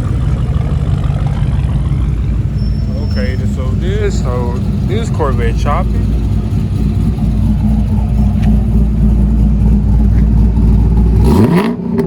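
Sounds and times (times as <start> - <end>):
car engine idling with lumpy lope: 0.0 - 12.0.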